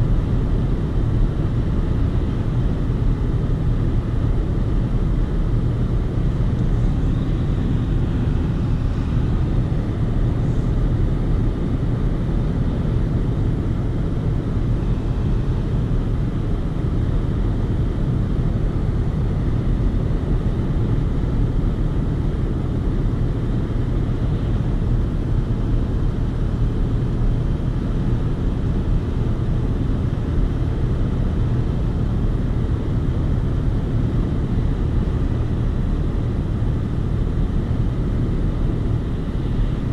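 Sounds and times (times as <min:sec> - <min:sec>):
engine hum: 0:00.0 - 0:39.9
road and tyre rumble: 0:00.0 - 0:39.9.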